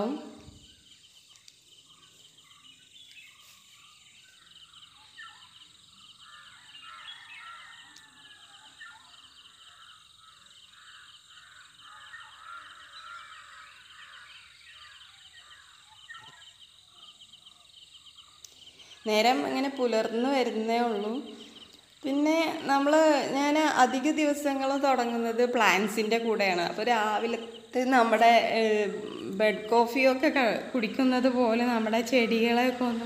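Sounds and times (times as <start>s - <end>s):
birds chirping and calling: 0.0s - 33.0s
rapid insect trill: 0.0s - 33.0s.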